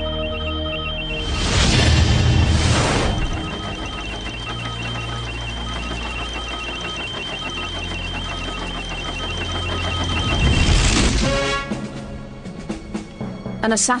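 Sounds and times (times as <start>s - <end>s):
short high-pitched beeping: 0.0s - 11.5s
steady high tone: 0.0s - 11.8s.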